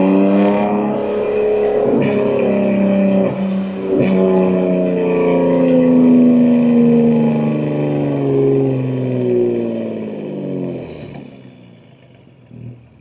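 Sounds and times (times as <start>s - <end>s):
car exhaust revs falling: 0.0s - 13.0s.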